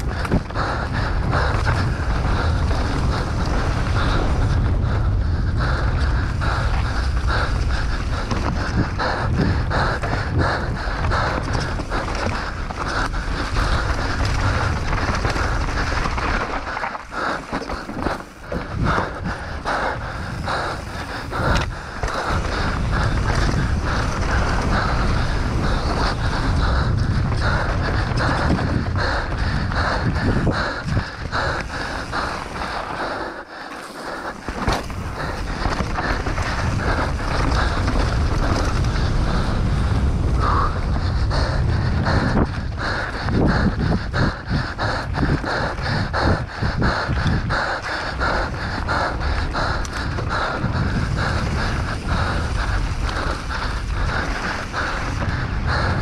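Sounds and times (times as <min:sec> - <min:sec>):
bike tyres on dirt and rock: 0:00.0 - 0:56.0
wind noise on microphone: 0:00.0 - 0:56.0.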